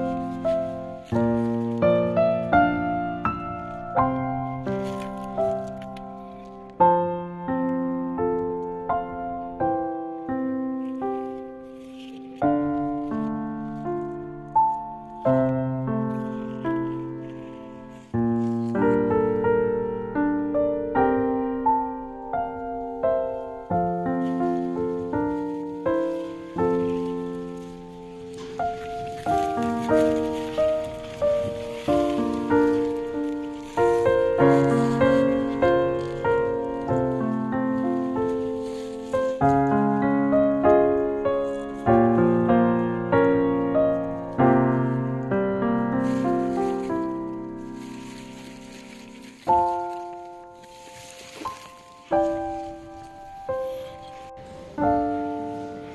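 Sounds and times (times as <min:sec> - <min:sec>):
slow piano melody: 0:00.0 - 0:55.9.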